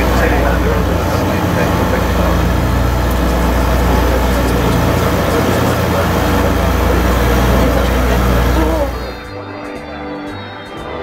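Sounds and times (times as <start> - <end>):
airship engines droning: 0.0 - 9.3.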